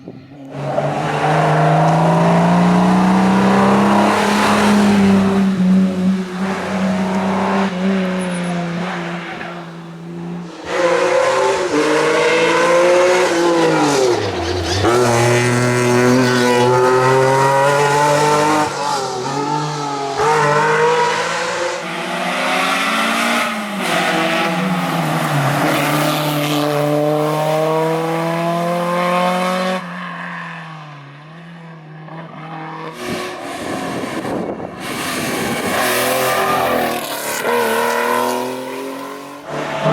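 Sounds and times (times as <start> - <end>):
racing car engines revving: 0.4 - 30.2, 32.1 - 39.9.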